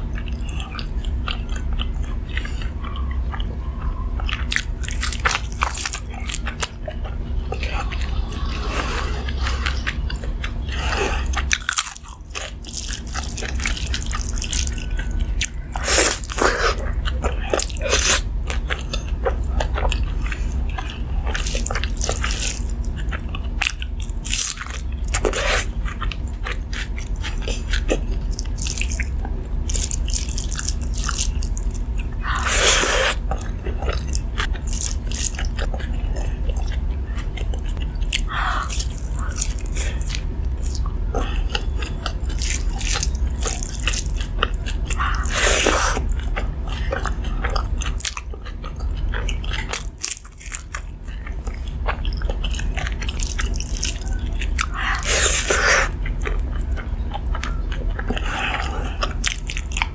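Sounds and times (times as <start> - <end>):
crunchy chewing: 0.0 - 59.9
steady low hum: 0.0 - 59.9.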